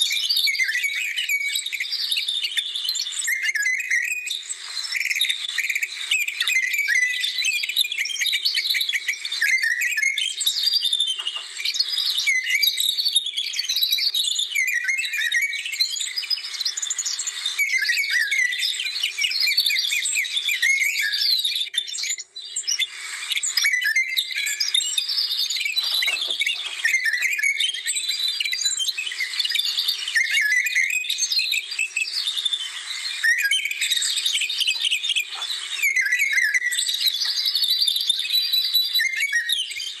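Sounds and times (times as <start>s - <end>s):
chorus of small birds singing: 0.0s - 40.0s.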